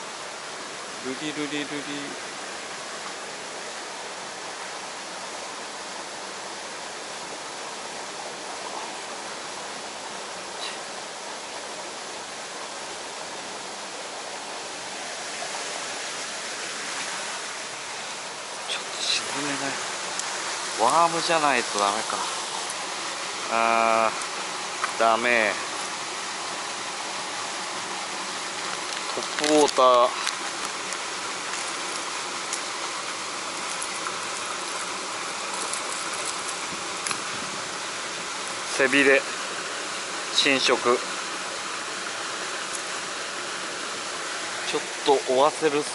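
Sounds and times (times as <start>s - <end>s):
stream water rushing: 0.0s - 45.9s.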